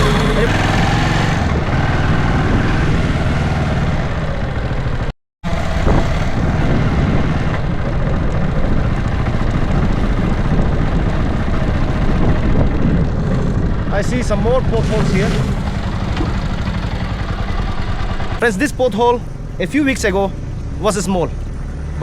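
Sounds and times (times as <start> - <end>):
engine and road noise rumble: 0.0 - 22.0.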